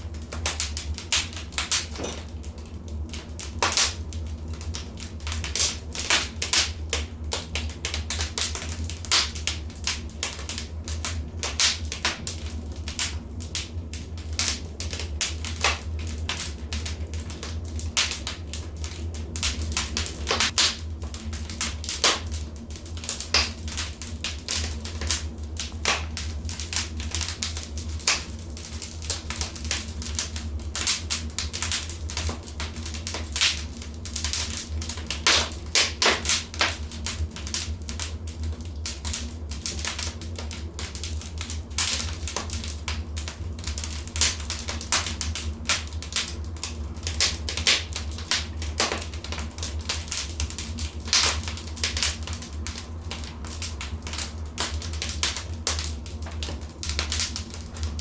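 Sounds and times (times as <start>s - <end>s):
fire crackling and popping: 0.0s - 58.0s
steady low rumble: 0.0s - 58.0s.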